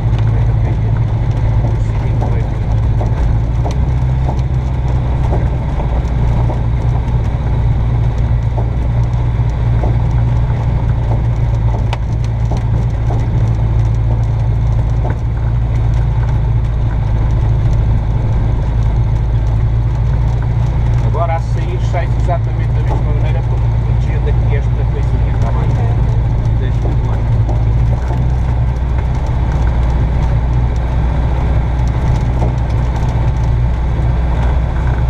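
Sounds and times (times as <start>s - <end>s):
light clicks and knocks: 0.0s - 35.0s.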